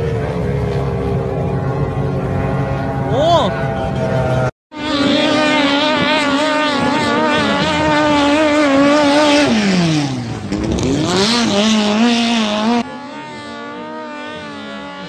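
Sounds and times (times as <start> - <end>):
boat engine at high revs: 0.0 - 15.0.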